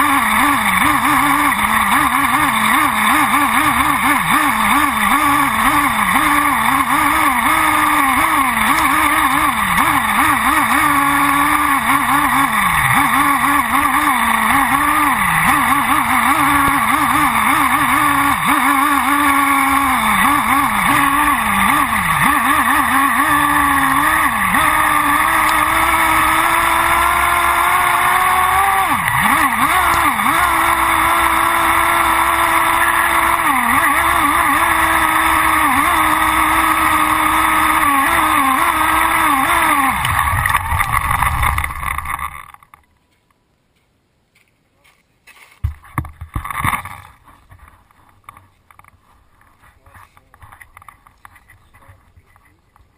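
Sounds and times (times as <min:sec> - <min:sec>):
model engine screaming at high revs: 0:00.0 - 0:42.7.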